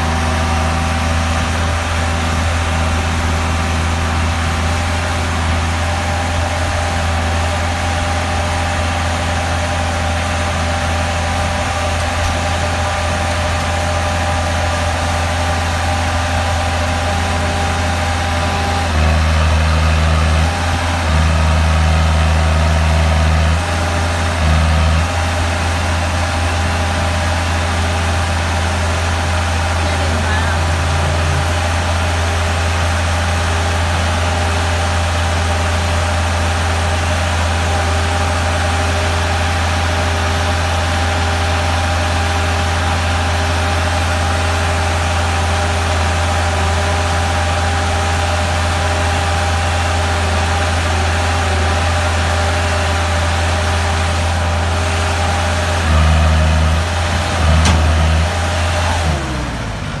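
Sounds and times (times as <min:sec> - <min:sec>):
crawler engine humming: 0:00.0 - 1:00.0.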